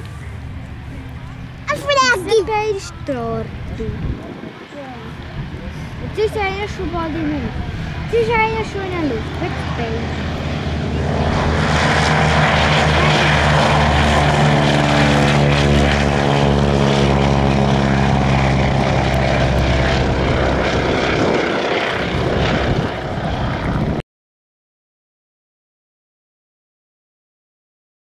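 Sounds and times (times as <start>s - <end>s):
propeller planes flying past: 0.0s - 24.0s.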